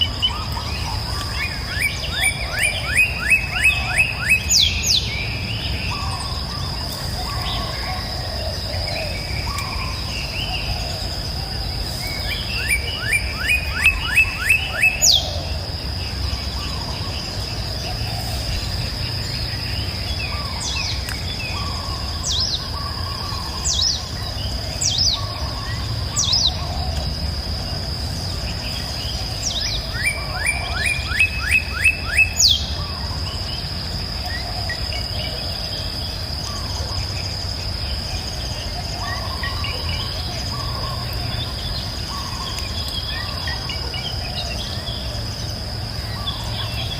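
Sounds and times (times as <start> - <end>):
high insect drone: 0.0 - 46.9
songbirds singing: 0.0 - 46.9.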